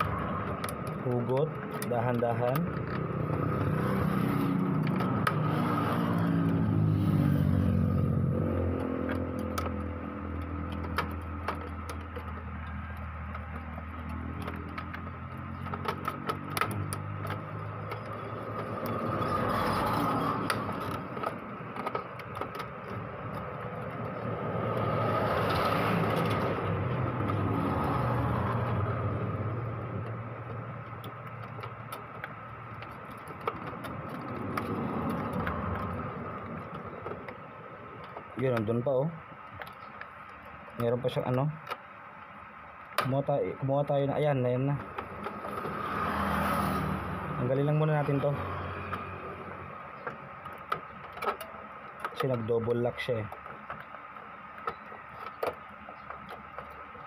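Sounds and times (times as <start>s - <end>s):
passing motor vehicles: 0.0s - 41.3s, 43.9s - 57.0s
plastic clicks and scrapes: 0.0s - 42.0s, 44.6s - 57.0s.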